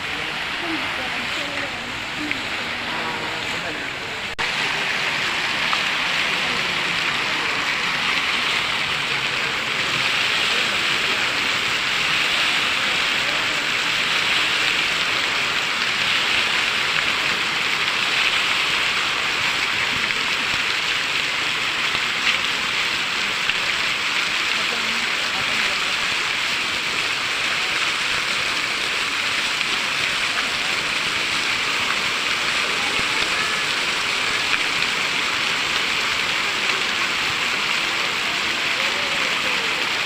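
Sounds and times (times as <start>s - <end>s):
fountain water splashing: 0.0s - 40.0s.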